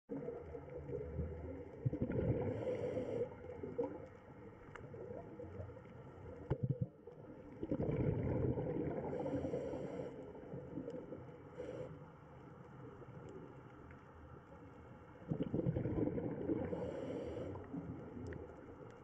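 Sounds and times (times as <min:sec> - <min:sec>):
underwater rumble with gurgling: 0:00.1 - 0:19.0.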